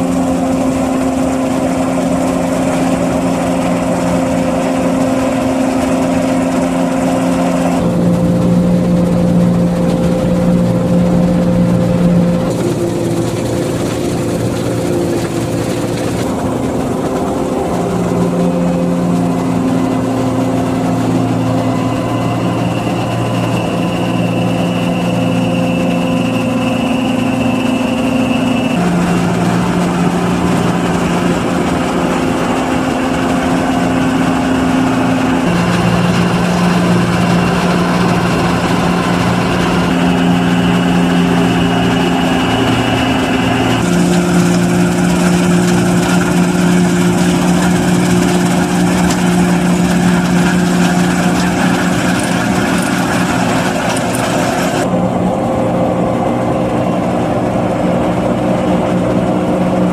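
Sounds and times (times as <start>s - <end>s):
combine harvester humming: 0.0s - 59.9s.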